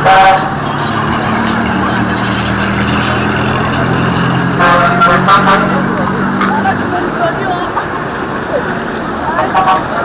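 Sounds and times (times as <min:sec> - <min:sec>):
road noise: 0:00.0 - 0:10.0
vehicle engine running: 0:00.0 - 0:10.0.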